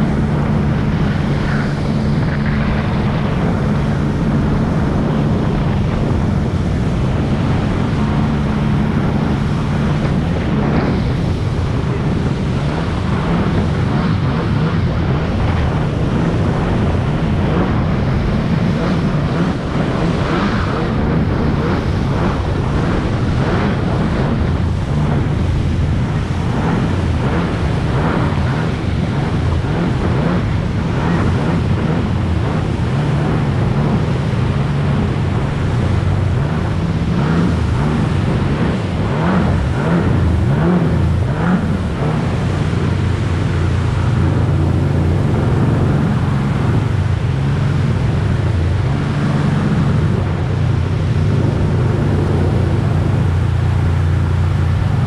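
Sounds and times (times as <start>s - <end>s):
jet ski engine running: 0.0s - 55.0s
water rushing and spray: 0.0s - 55.0s.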